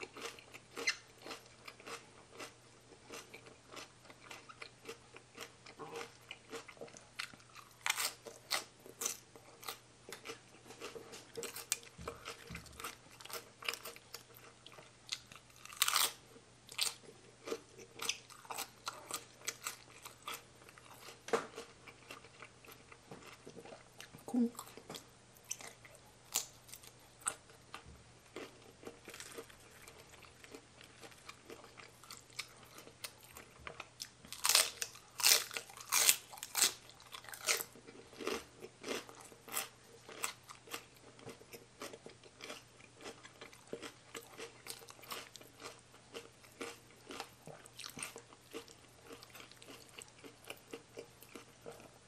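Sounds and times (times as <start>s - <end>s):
person chewing and crunching food: 0.0s - 52.0s.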